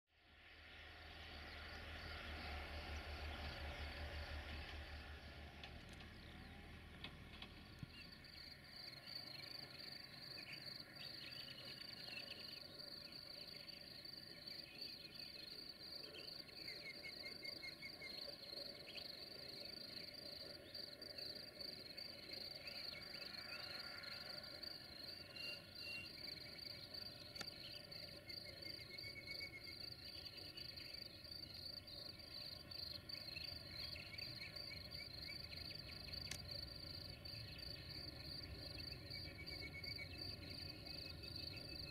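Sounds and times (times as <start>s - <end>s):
insects chirring: 7.3s - 41.9s.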